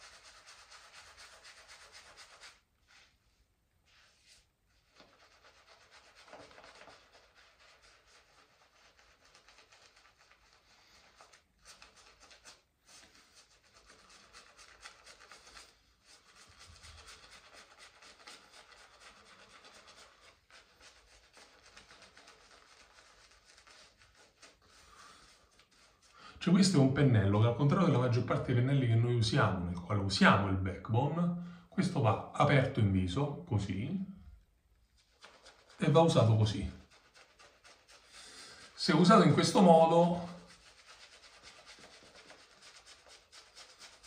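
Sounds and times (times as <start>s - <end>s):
shaving brush rubbing on face: 0.0s - 26.8s, 34.8s - 44.0s.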